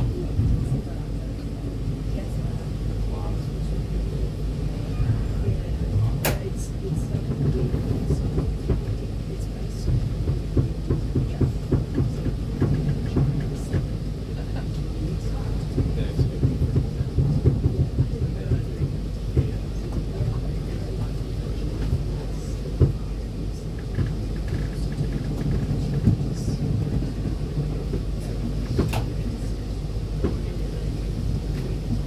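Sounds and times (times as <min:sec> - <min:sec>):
tram rumbling: 0:00.0 - 0:32.0.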